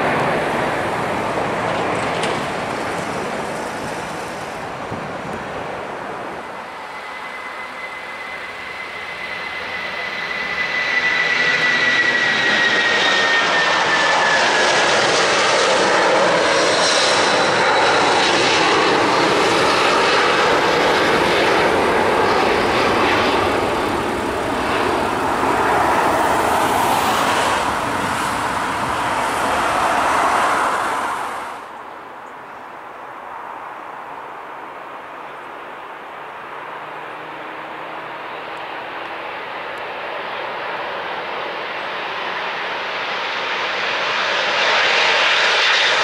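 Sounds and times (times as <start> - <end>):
jet roar: 0.0 - 32.2, 36.6 - 46.0
jet engine whine: 0.0 - 46.0.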